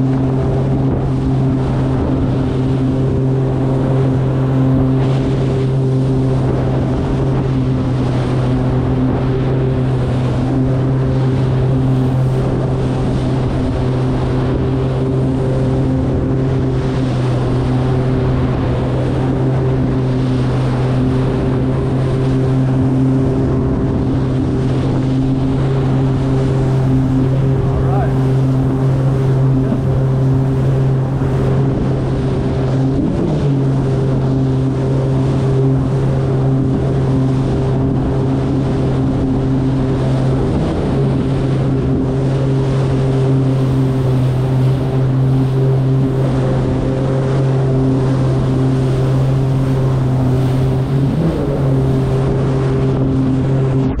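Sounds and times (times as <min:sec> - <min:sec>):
jet ski engine drone: 0:00.0 - 0:54.0.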